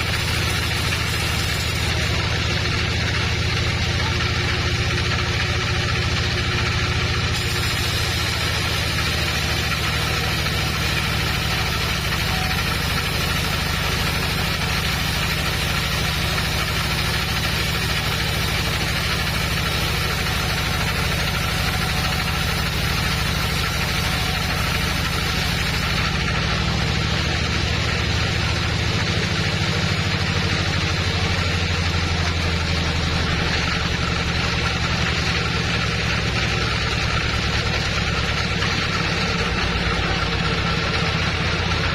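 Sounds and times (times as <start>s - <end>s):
sawmill machinery motor hum: 0.0s - 41.9s.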